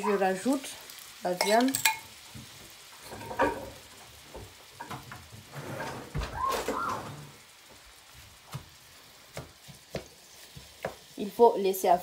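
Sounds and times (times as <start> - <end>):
meat frying in a pan: 0.0 - 12.0.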